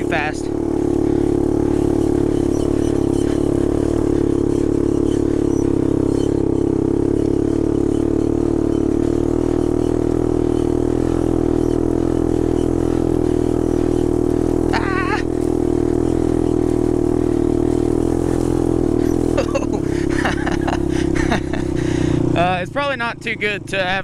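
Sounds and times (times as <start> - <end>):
atv engine running steadily: 0.0 - 24.0.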